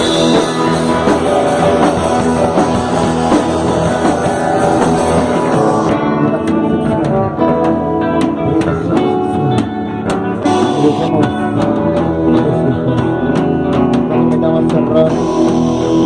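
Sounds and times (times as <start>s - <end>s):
drum kit steady beat: 0.0s - 16.0s
guitar playing: 0.0s - 16.0s.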